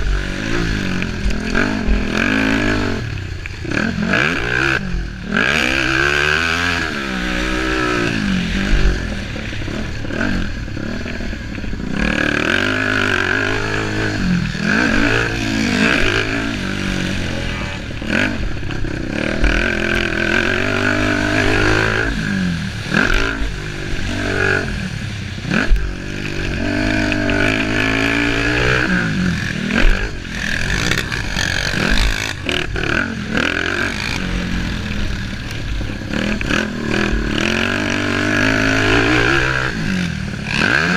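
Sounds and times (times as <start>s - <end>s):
racing engines revving: 0.0s - 40.9s.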